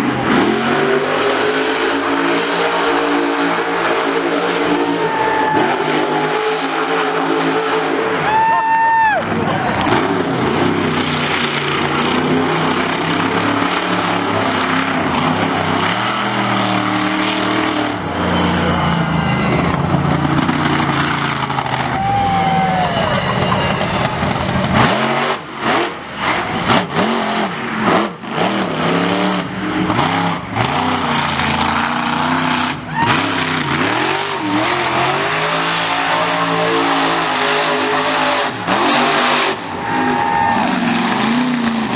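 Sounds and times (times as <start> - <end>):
monster truck engine revving: 0.0 - 41.9.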